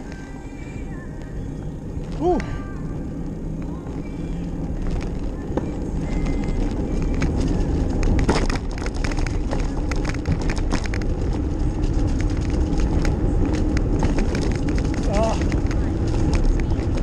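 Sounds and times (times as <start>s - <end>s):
bicycle clicks and crackles: 0.0s - 17.0s
bicycle riding rumble: 0.0s - 17.0s.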